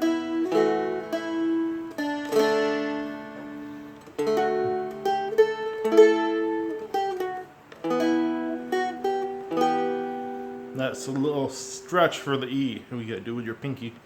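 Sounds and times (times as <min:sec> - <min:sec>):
stringed instrument strummed slowly: 0:00.0 - 0:12.8.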